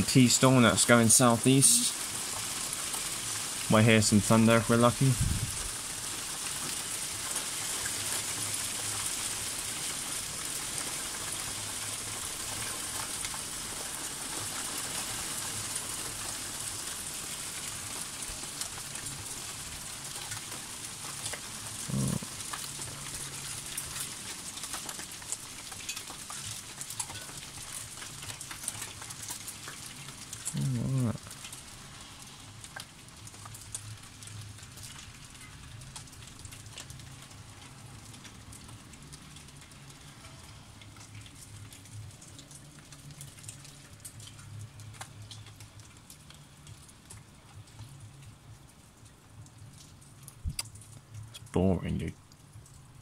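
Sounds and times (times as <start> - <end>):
hail pellets ticking: 0.0 - 53.0
rain hissing: 0.0 - 53.0.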